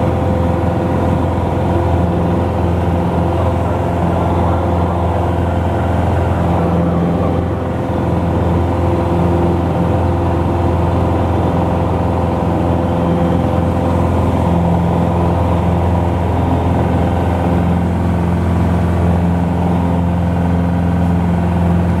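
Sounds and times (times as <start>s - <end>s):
aircraft engine droning: 0.0s - 22.0s.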